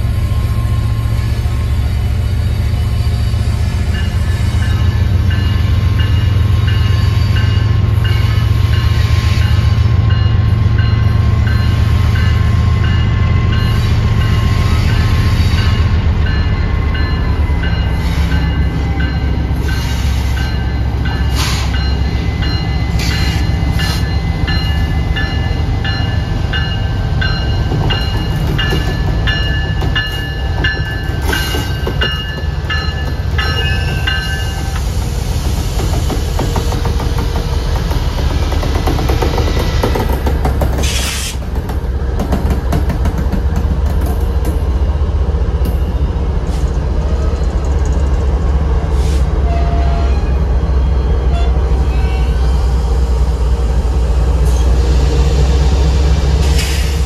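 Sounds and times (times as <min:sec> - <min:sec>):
train locomotive rumble: 0:00.0 - 0:57.0.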